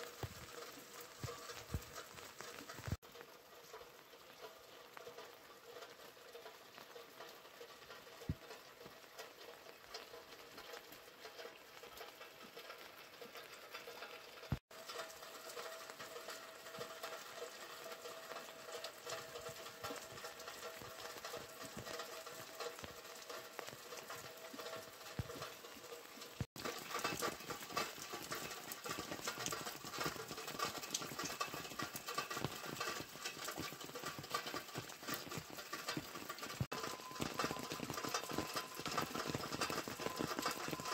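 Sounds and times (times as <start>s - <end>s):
rain dripping and pattering: 0.0s - 40.9s.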